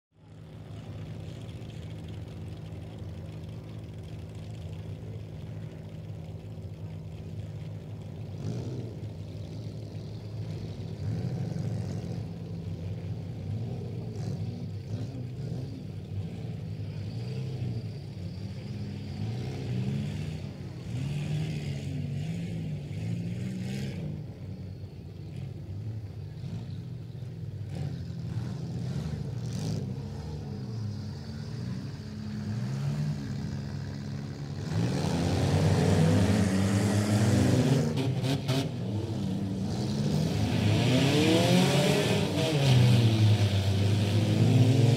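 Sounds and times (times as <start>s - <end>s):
race car engines revving: 0.2s - 44.9s.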